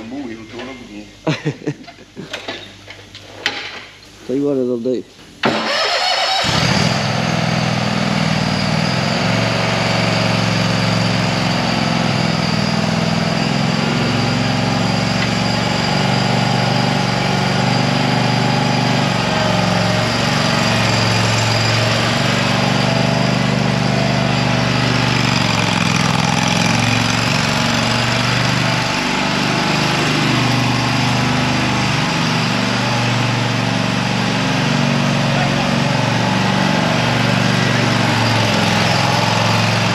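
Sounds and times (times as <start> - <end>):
mower engine running: 5.4 - 39.9.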